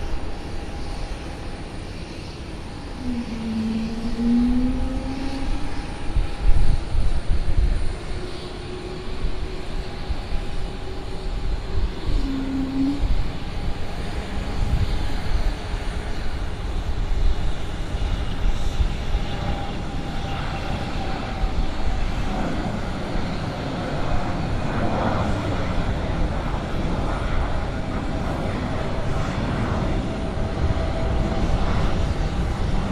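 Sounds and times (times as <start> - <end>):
jet taking off: 0.0 - 32.9.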